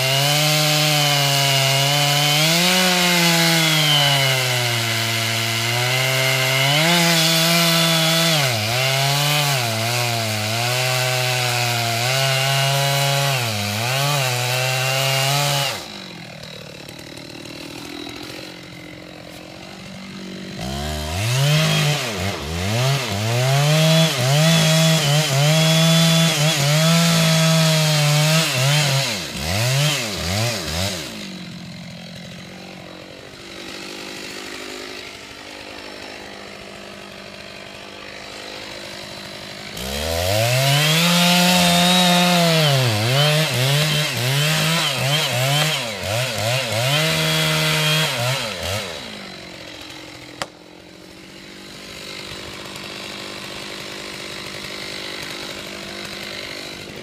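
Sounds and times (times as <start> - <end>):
chainsaw cutting wood: 0.0 - 57.0
chainsaw idling: 0.0 - 57.0.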